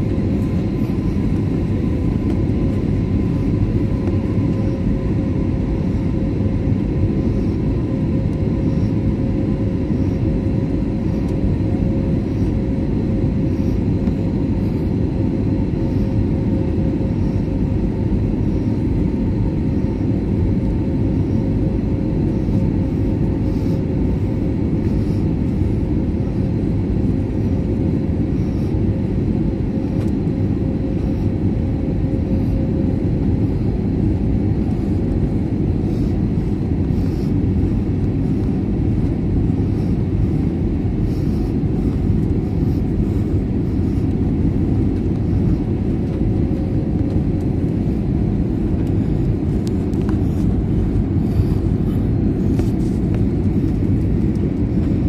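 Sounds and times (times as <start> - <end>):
faint steady hum tone: 0.0 - 55.0
jet cabin engine rumble: 0.0 - 55.0.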